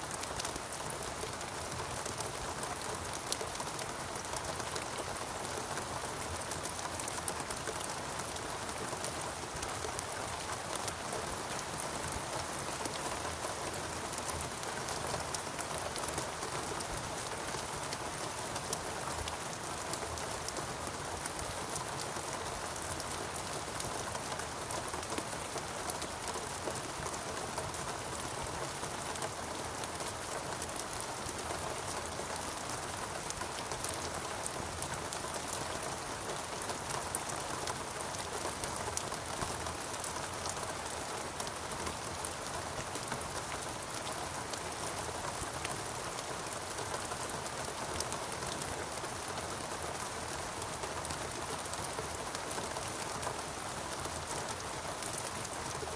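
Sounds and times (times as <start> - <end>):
steady rain pattering: 0.0 - 55.9.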